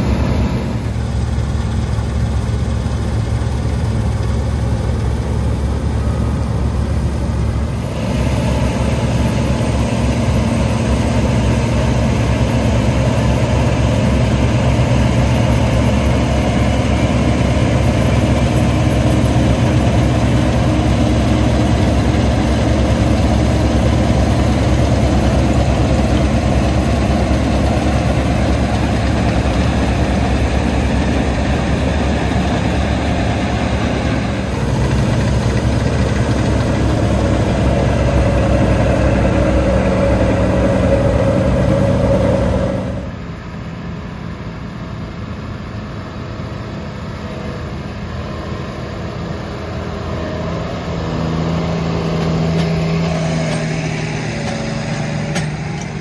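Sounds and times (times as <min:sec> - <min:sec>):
combine harvester diesel engines: 0:00.0 - 0:56.0.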